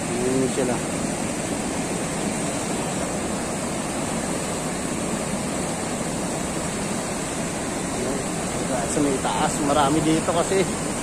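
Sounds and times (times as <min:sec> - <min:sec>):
rushing whitewater rapids: 0:00.0 - 0:11.0.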